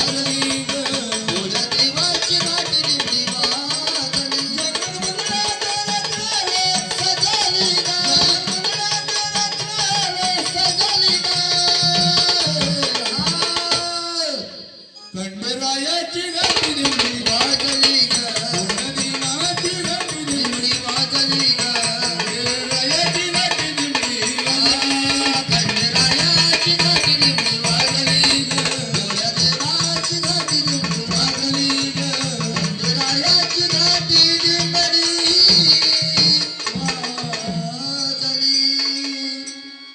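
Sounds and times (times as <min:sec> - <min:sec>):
jingling rattling percussion: 0:00.0 - 0:14.4, 0:16.4 - 0:39.9.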